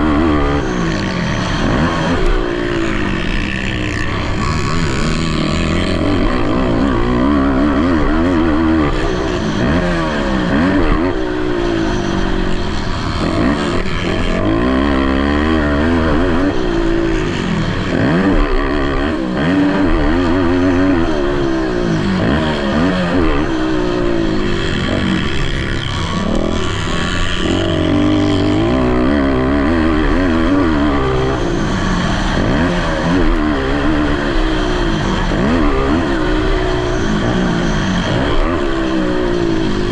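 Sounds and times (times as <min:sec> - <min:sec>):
quad engines revving hard: 0:00.0 - 0:39.9.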